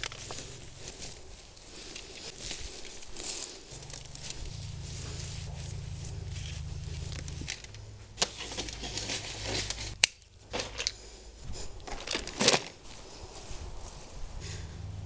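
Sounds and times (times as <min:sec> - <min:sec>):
rustling and crinkling plastic: 0:00.0 - 0:14.2.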